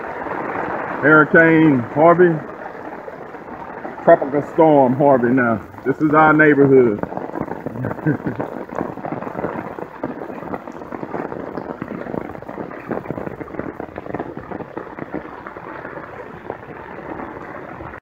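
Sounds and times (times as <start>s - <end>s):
water pattering and splashing: 0.0s - 18.0s.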